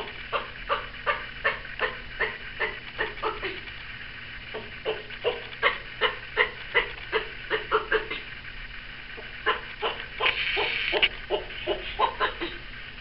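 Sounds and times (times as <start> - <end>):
tortoise calling: 0.0 - 3.7, 4.5 - 8.4, 9.2 - 12.8.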